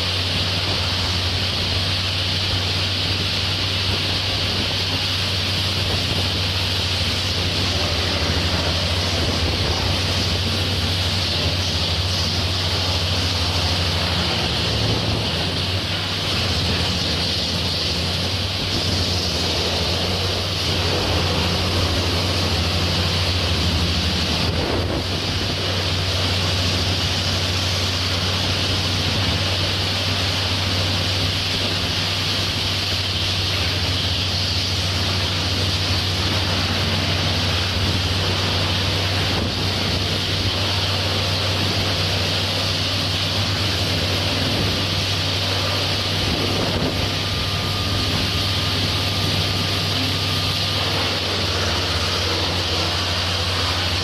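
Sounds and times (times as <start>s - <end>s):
wood chipper running: 0.0s - 54.0s.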